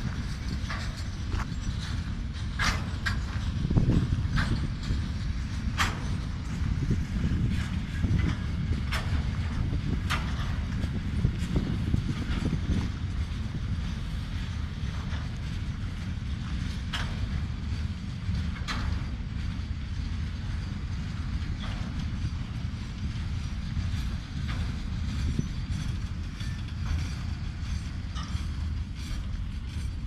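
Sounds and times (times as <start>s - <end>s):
wagons creaking and squealing: 0.0s - 19.3s, 20.0s - 30.0s
train wheels rumbling on rail: 0.0s - 30.0s.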